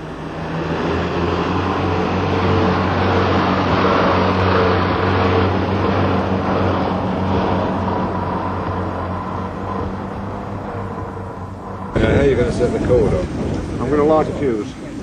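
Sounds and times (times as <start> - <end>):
vehicle engine drone: 0.0 - 15.0.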